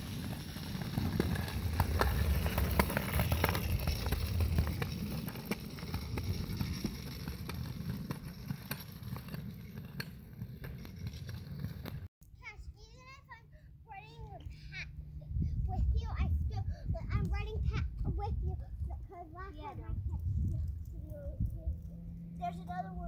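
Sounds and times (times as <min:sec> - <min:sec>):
scooter wheels rolling on concrete: 0:00.0 - 0:12.1, 0:15.8 - 0:23.0.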